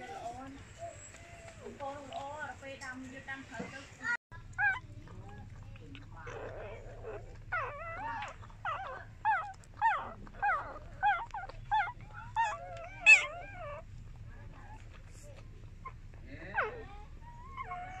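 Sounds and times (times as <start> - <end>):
puppy whimpering: 0.0 - 2.3, 4.4 - 18.0.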